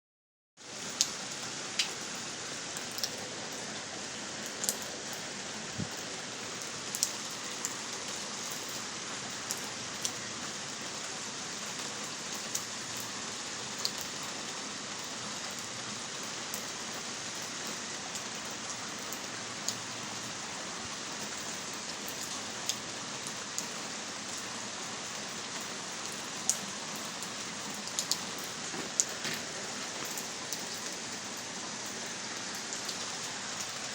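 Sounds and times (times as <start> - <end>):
heavy rain pouring: 0.6 - 33.9
raindrops ticking close by: 0.6 - 33.9.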